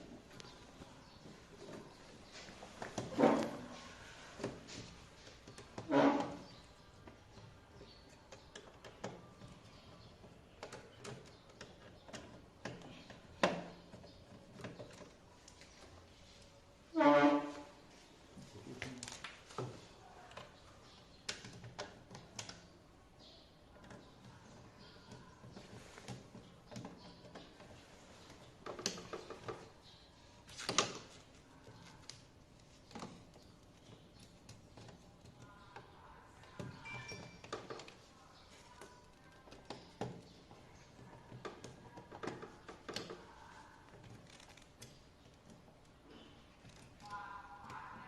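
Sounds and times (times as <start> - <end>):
light clicks and knocks of hand work: 0.0 - 16.6, 18.0 - 48.0.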